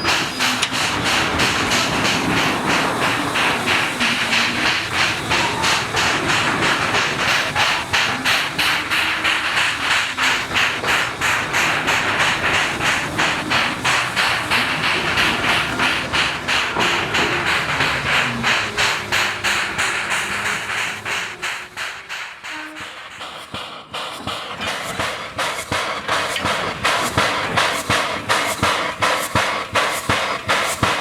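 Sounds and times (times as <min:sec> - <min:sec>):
steam hiss: 0:00.0 - 0:31.0
steam locomotive exhaust beats: 0:00.0 - 0:31.0.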